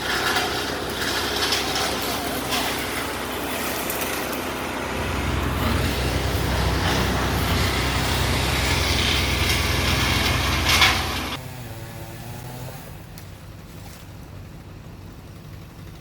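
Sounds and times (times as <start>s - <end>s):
heavy engine running: 0.0s - 11.6s, 12.2s - 16.0s.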